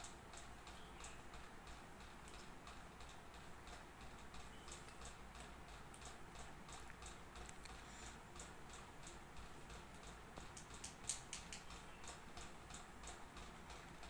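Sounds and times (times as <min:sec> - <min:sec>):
faint regular ticking: 0:00.0 - 0:14.0.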